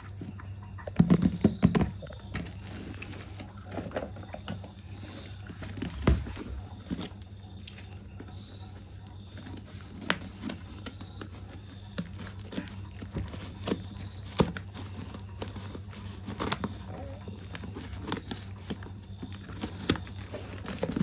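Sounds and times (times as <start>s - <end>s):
objects being handled: 0.0s - 21.0s.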